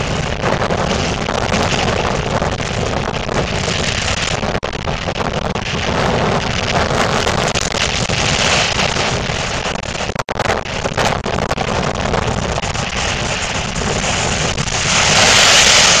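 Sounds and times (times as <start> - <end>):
storm wind on microphone: 0.0 - 16.0.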